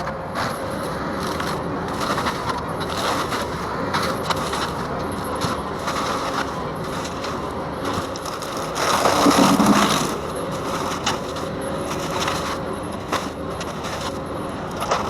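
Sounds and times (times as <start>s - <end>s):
forestry mulcher grinding wood: 1.2s - 14.2s.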